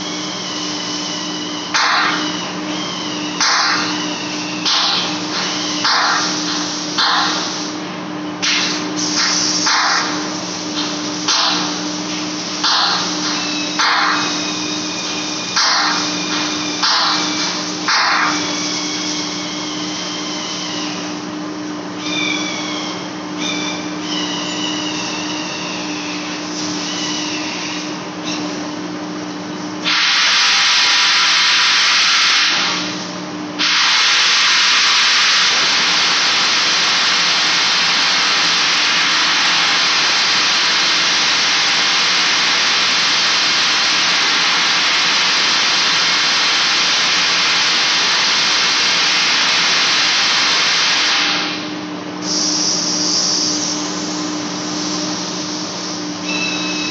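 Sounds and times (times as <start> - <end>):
loud steady hiss: 0.0 - 21.2, 29.8 - 56.9.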